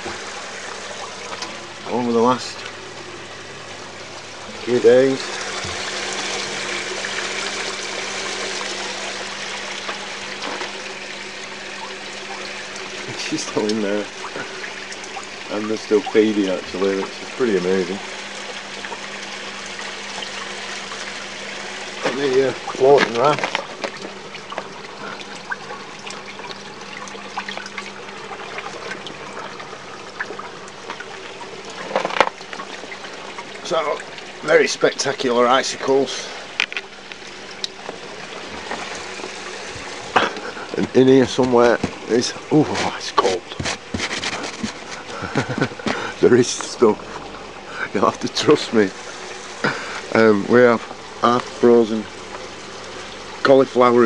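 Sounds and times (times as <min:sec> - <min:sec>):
water dripping: 0:00.0 - 0:54.0
water pouring and splashing: 0:00.0 - 0:54.0.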